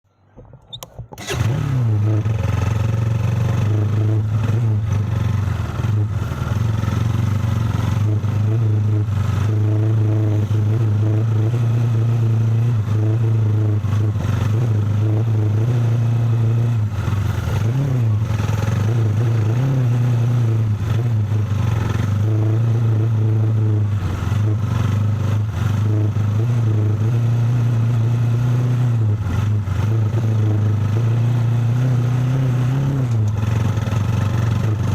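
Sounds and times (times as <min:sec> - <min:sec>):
vehicle engine running: 0:00.2 - 0:34.9.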